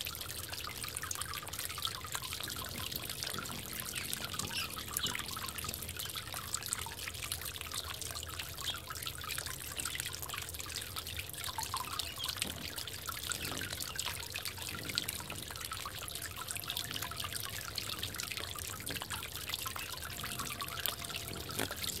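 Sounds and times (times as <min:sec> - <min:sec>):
water trickling in bird bath: 0:00.0 - 0:22.0.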